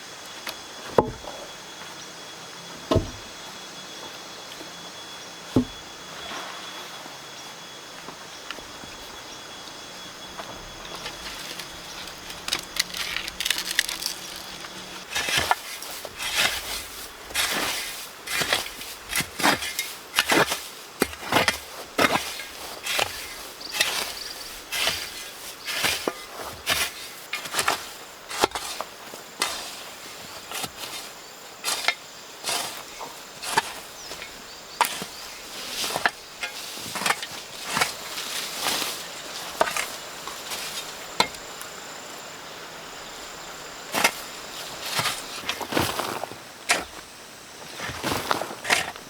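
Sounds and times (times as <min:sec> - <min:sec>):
high insect trill: 0:00.0 - 0:49.0.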